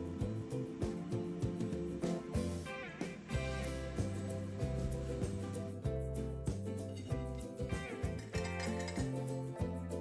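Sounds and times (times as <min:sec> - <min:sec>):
guitar-led music with beat: 0:00.0 - 0:10.0.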